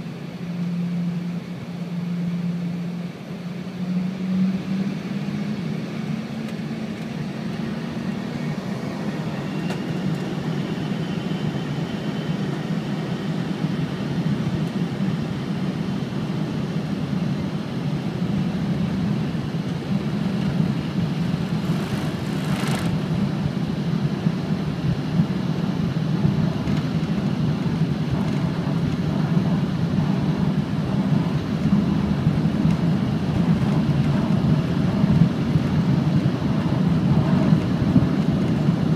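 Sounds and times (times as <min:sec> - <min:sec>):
jet engines rumbling in cabin: 0:00.0 - 0:38.9.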